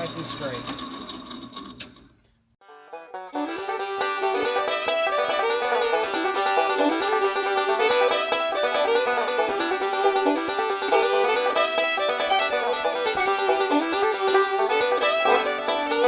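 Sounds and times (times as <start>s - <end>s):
banjo bluegrass tune: 2.6s - 16.0s.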